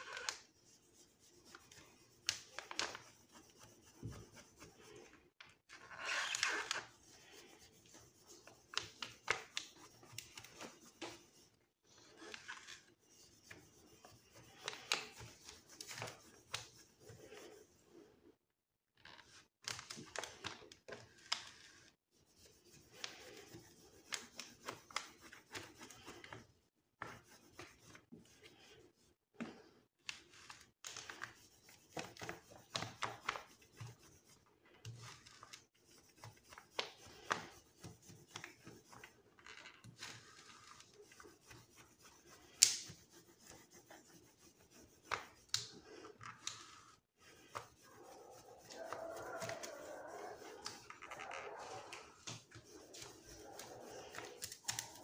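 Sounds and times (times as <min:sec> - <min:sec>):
hands rubbing plastic film: 0:00.0 - 0:17.6, 0:19.0 - 0:28.8, 0:30.0 - 0:55.0.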